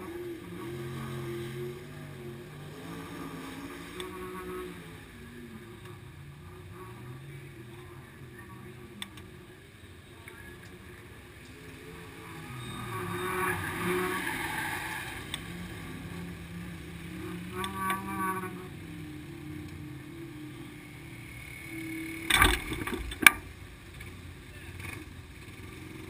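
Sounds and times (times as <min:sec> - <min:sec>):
vehicle engines running: 0:00.0 - 0:26.0.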